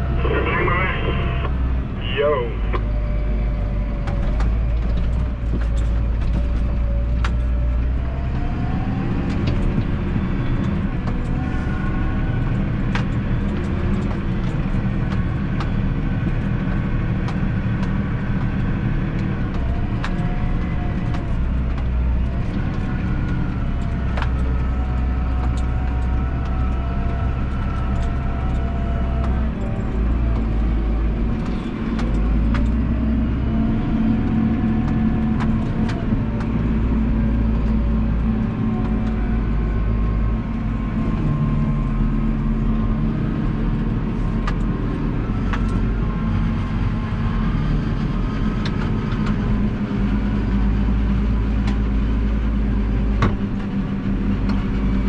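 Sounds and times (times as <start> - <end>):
drivetrain whine: 0.0 - 55.0
tractor diesel engine running: 0.0 - 55.0.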